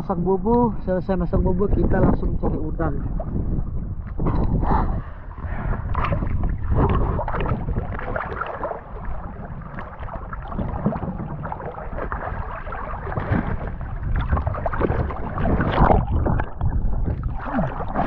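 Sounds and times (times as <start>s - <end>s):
sea water splashing: 1.8s - 18.0s.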